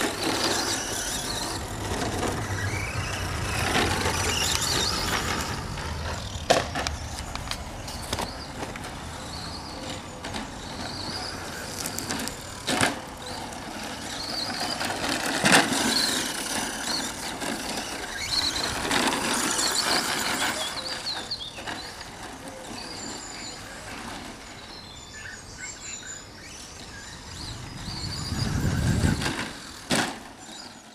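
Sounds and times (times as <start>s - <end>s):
tyre noise: 0.0s - 25.5s, 26.6s - 30.9s
radio-controlled truck motor whine: 0.0s - 30.9s.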